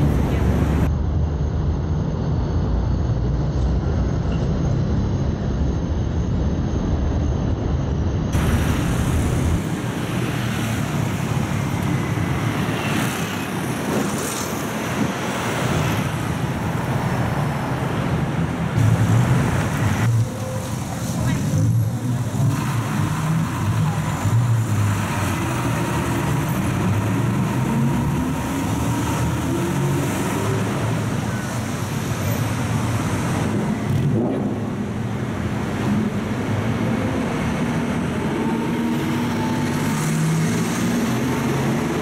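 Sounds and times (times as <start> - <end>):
car and bus engines rumbling: 0.0 - 42.0.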